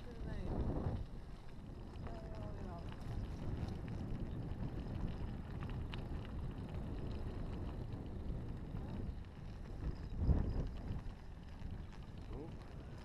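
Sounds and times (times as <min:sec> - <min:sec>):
bike tyres rolling on gravel: 0:00.0 - 0:13.0
wind buffeting microphone: 0:00.0 - 0:13.0.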